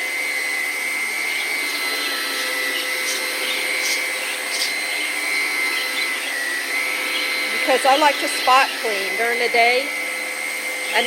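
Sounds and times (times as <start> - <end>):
vacuum cleaner running on carpet: 0.0 - 11.0.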